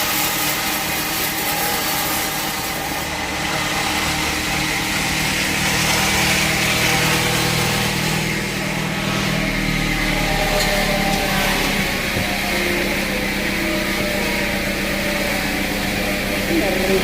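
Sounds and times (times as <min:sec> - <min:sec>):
sawmill bandsaw droning: 0:00.0 - 0:17.0.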